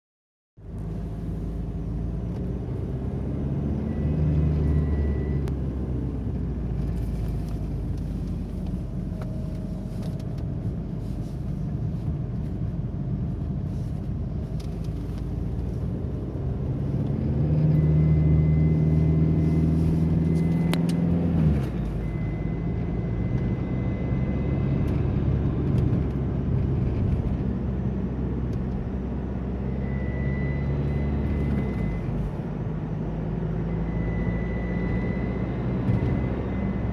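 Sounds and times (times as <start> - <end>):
car engine accelerating: 0.7 - 10.3, 14.4 - 36.9.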